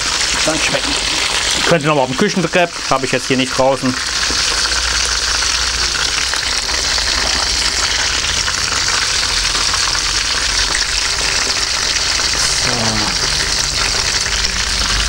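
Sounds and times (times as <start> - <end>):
frying oil sizzling and crackling: 0.0 - 15.0.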